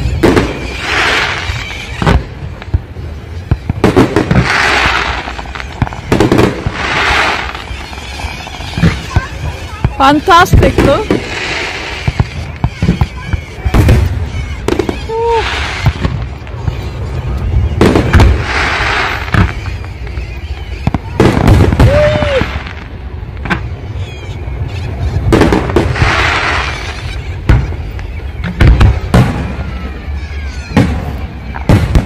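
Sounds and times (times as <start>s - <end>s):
firework crackling showers: 0.0s - 32.0s
firework shells booming: 0.0s - 32.0s
firework whistle: 0.0s - 32.0s.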